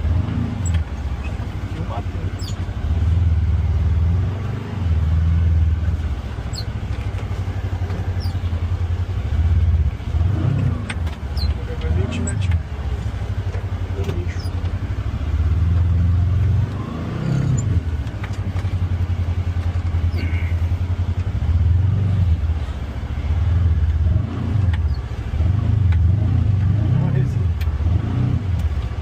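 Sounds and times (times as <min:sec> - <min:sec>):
vehicle engine running at low speed: 0:00.0 - 0:29.0.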